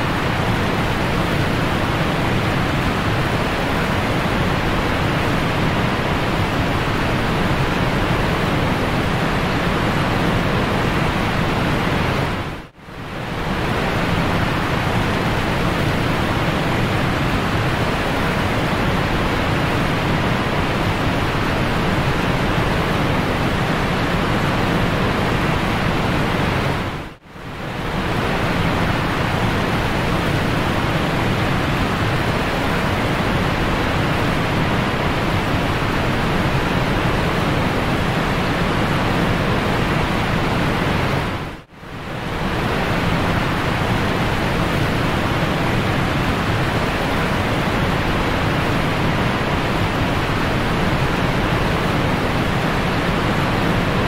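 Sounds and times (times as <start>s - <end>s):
waterfall rushing over boulders: 0.0s - 54.0s.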